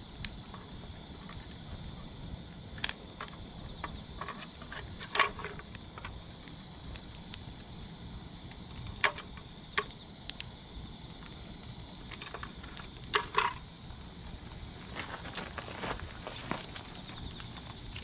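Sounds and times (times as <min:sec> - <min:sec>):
campfire crackling: 0:00.0 - 0:18.0
insects chirring: 0:00.0 - 0:18.0
sharp pops of fire: 0:00.0 - 0:18.0.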